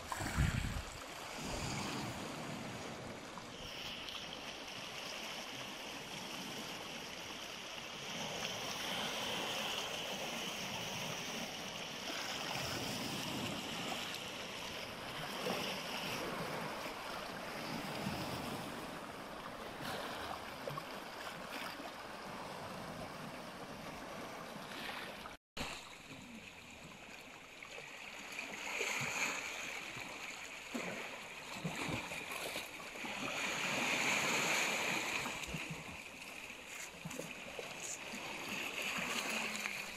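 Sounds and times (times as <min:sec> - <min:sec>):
waves lapping on rocks: 0:00.0 - 0:39.9.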